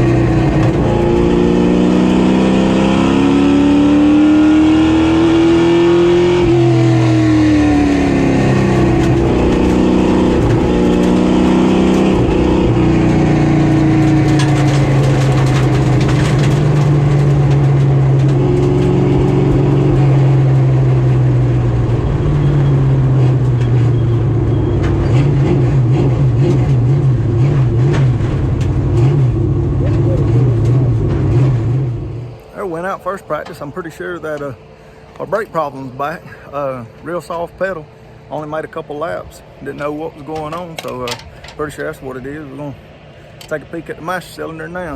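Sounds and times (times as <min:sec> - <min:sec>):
race car engine revving: 0:00.0 - 0:36.3.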